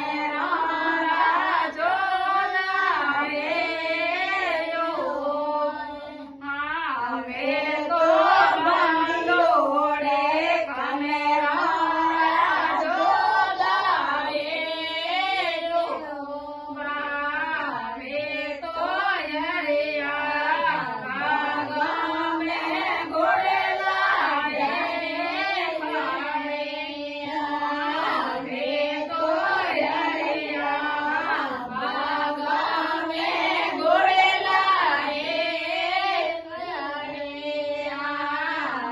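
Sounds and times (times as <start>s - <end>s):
woman singing devotional song: 0.0s - 38.9s.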